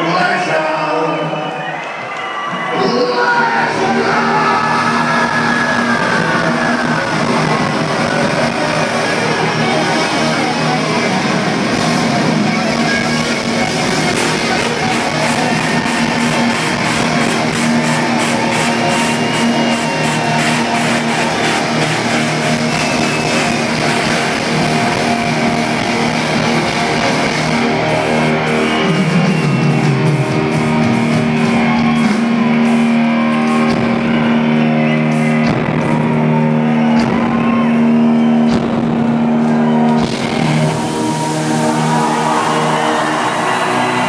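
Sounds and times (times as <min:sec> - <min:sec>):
distorted electric guitars: 0:02.4 - 0:44.0
bass guitar sustained notes: 0:02.7 - 0:44.0
drum and cymbal hits: 0:03.7 - 0:44.0.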